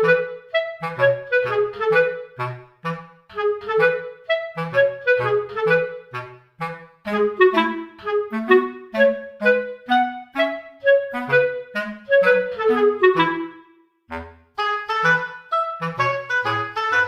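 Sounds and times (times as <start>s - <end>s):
bouncy woodwind melody: 0.0s - 17.0s.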